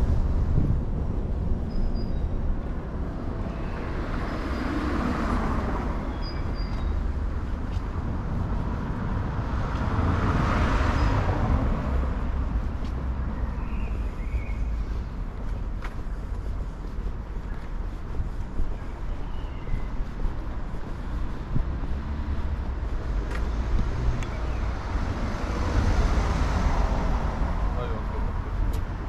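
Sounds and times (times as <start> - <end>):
cars passing: 0.0 - 29.0
traffic rumble: 0.0 - 29.0.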